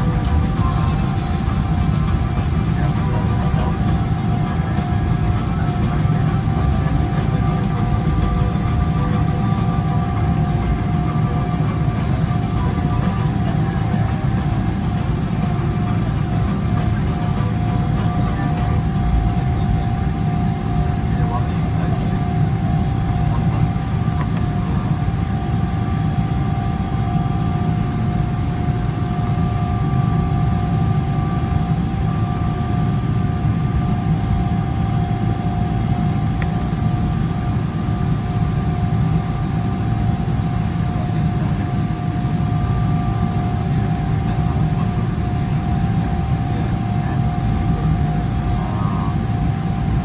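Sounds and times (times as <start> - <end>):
airplane cabin engine rumble: 0.0 - 50.0
jet engine whining tones: 0.0 - 50.0.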